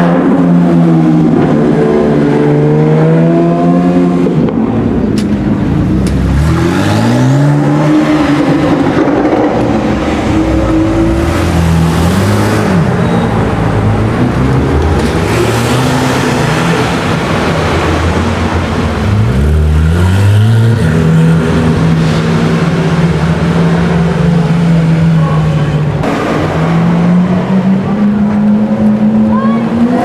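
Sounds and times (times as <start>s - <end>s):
car engines revving and accelerating: 0.0s - 30.0s.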